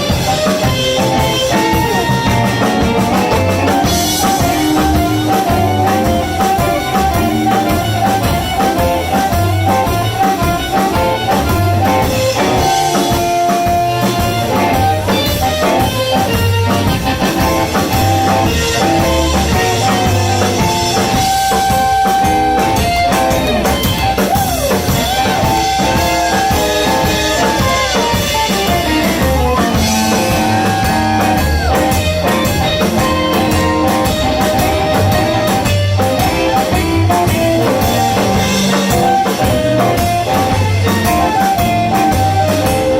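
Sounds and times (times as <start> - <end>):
blues band playing live: 0.0 - 42.9
guitar bent notes: 0.0 - 42.9.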